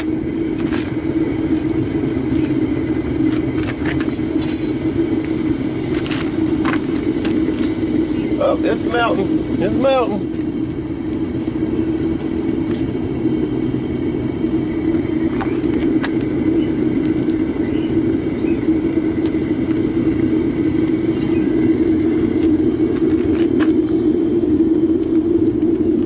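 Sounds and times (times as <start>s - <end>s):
propane burner rushing: 0.0s - 26.0s.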